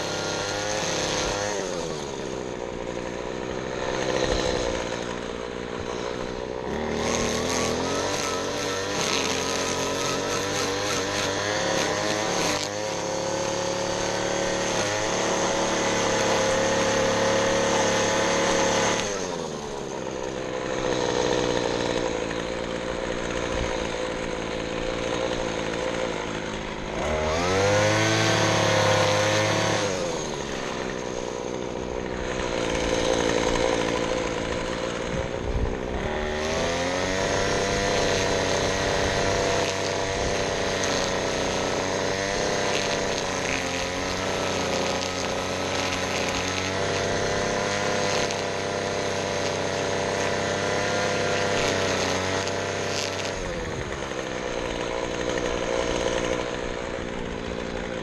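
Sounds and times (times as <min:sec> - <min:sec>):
small gas engine revving: 0:00.0 - 0:58.0.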